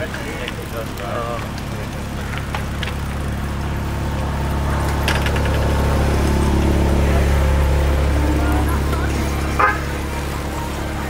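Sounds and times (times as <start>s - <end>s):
engine running with low hum: 0.0s - 11.0s.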